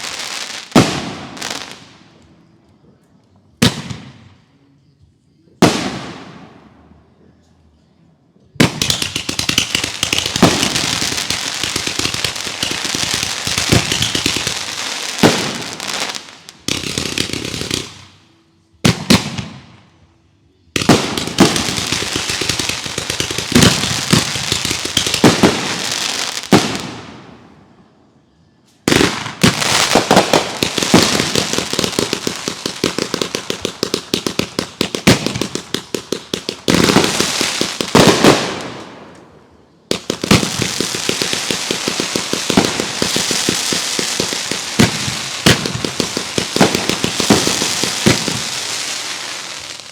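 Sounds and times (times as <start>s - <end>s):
fireworks bangs and crackles: 0.0s - 2.2s, 3.6s - 4.4s, 5.6s - 6.8s, 8.6s - 18.2s, 18.8s - 19.9s, 20.8s - 27.6s, 28.8s - 49.9s.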